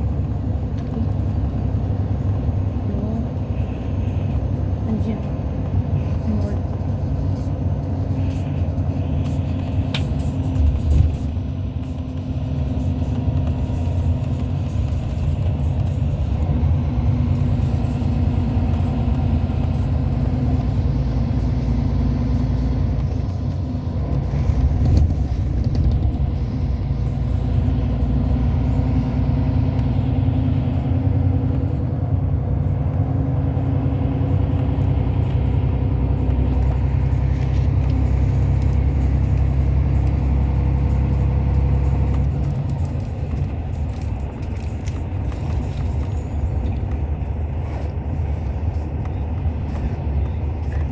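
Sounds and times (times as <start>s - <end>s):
bus engine drone: 0.0s - 50.9s
road rumble: 0.0s - 50.9s.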